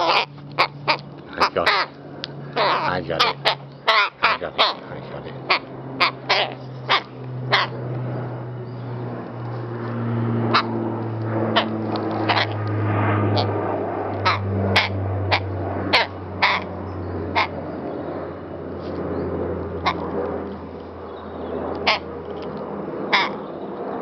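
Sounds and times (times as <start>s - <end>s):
rook clicking calls: 0.0s - 9.1s, 10.5s - 12.8s, 14.2s - 18.1s, 19.7s - 23.9s.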